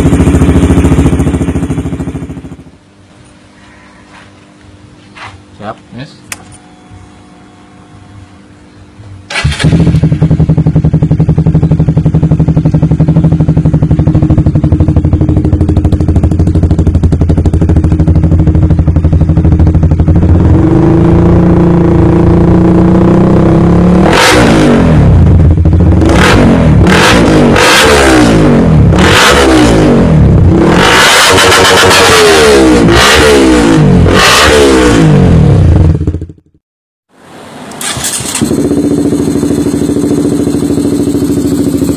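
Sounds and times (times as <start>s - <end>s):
motorcycle engine idling and revving: 0.0s - 2.9s, 7.9s - 36.6s, 37.3s - 41.9s.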